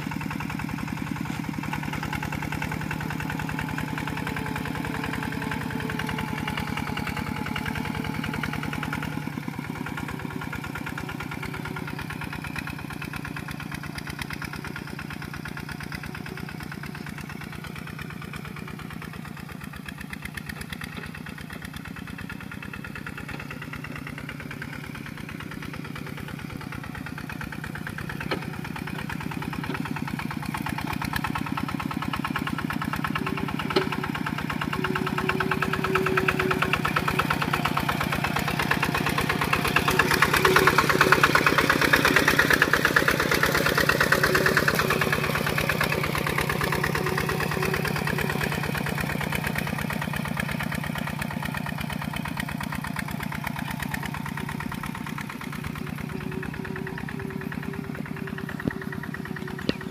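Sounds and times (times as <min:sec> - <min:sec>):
diesel tractor engine chugging: 0:00.0 - 0:59.9.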